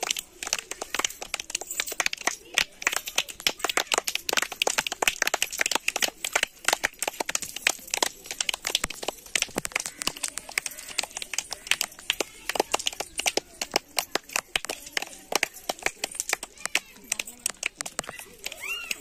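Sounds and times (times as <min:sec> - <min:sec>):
pebbles clicking together: 0:00.0 - 0:19.0.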